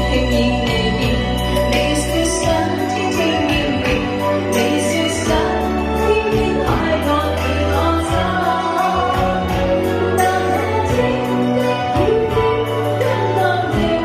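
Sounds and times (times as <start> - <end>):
bass and chords backing: 0.0 - 14.0
person singing pop song: 0.0 - 14.0.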